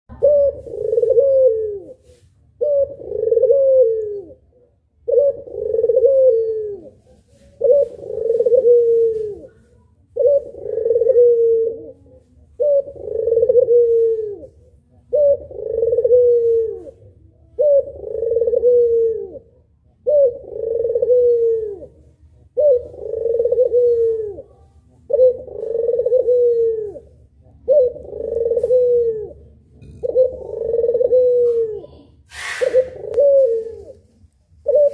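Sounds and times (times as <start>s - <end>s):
dove cooing: 0.1s - 34.9s.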